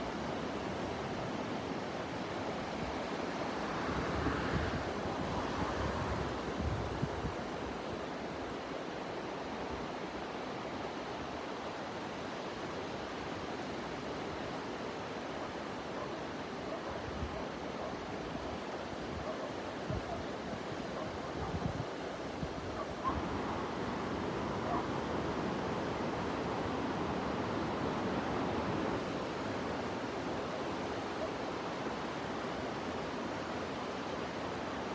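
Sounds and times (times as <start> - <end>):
ocean surf washing onto beach: 0.0 - 34.9.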